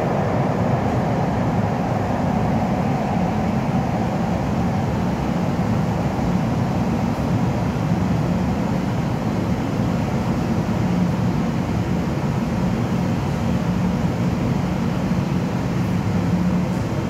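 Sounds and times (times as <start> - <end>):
underground station rumble and hum: 0.0 - 17.0.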